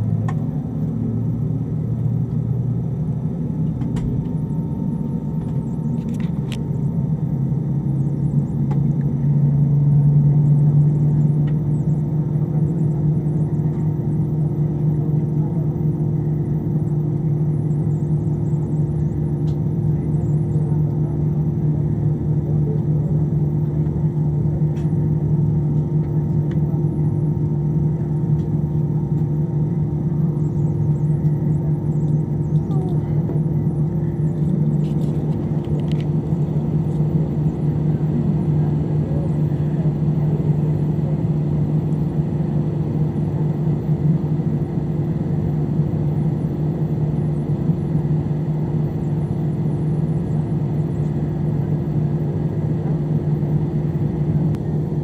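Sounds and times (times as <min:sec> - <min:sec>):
aircraft engines humming: 0:00.0 - 0:55.0.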